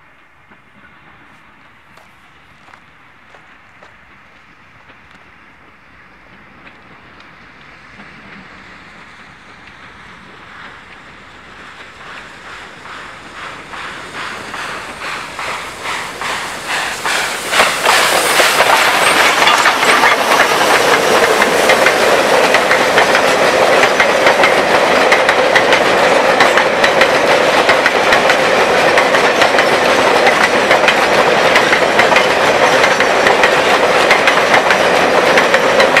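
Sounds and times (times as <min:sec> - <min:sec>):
steam locomotive exhaust beats: 0:00.0 - 0:36.0
train wheels clicking over rail joints: 0:00.1 - 0:36.0.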